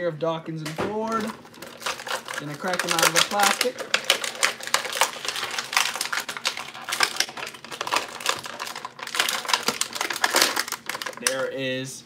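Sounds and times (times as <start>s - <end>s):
plastic packaging crackling: 0.6s - 11.5s.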